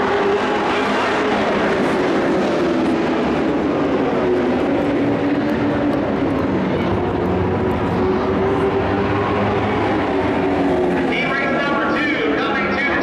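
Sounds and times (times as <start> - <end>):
race truck engines droning: 0.0 - 13.0.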